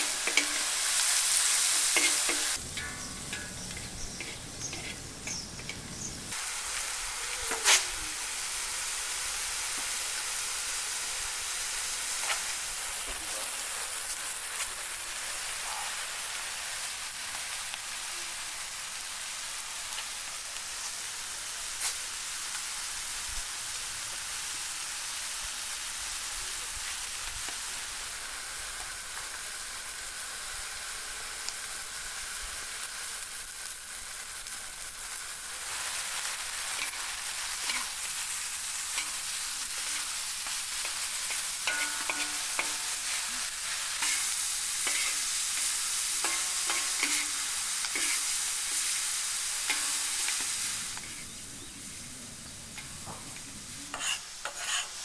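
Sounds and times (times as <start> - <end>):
food frying in hot oil: 0.0 - 55.0.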